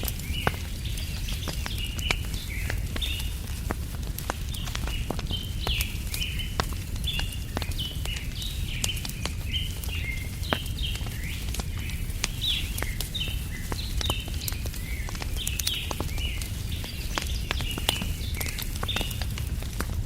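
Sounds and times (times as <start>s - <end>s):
small birds chirping: 0.0s - 20.0s
wood fire crackling: 0.0s - 20.0s.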